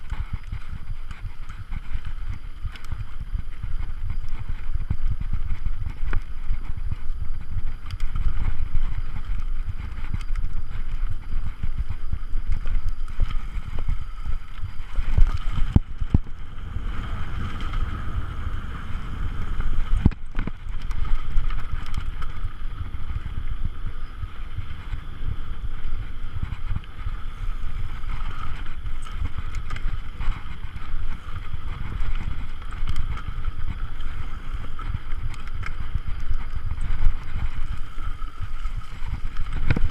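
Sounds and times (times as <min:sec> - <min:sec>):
bike rumbling and rattling: 0:00.0 - 0:39.9
wind on microphone: 0:00.0 - 0:39.9.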